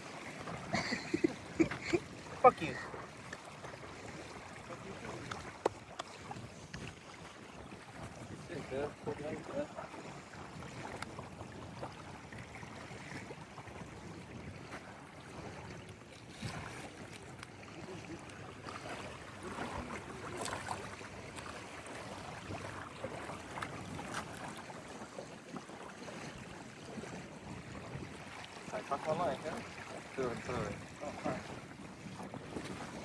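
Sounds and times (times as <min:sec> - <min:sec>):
lake water: 0:00.0 - 0:33.0
wind: 0:00.0 - 0:33.0.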